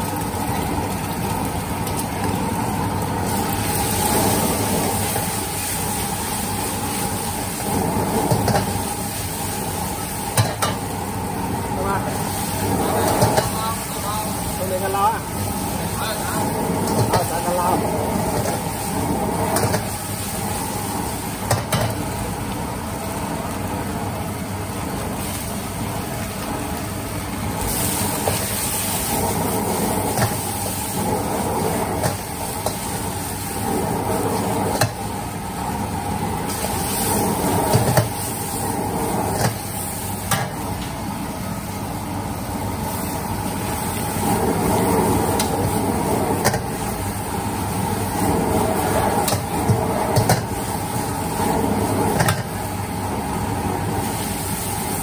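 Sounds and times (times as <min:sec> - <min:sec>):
gas burner flame rushing: 0:00.0 - 0:55.0
noodles sizzling in wok: 0:00.0 - 0:55.0.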